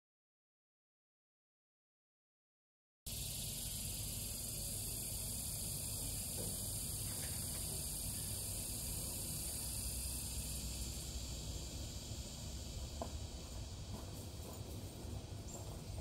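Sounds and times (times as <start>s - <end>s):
insect chorus buzzing: 3.1s - 16.0s.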